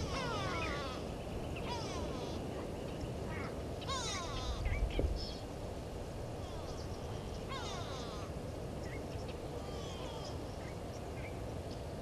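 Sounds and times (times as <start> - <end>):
birds chirping: 0.0 - 5.7, 6.4 - 12.0
low background noise: 0.0 - 12.0.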